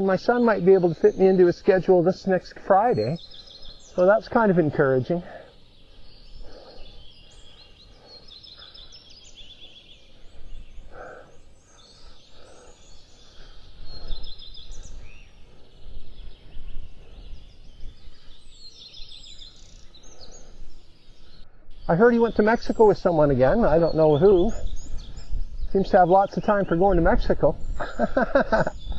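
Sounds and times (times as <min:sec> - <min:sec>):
songbirds chirping and trilling: 0:00.0 - 0:28.9.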